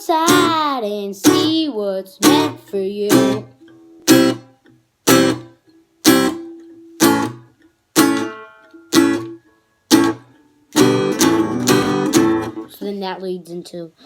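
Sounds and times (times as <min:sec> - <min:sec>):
guitar chords strummed: 0:00.0 - 0:00.6, 0:01.2 - 0:01.6, 0:02.2 - 0:12.9.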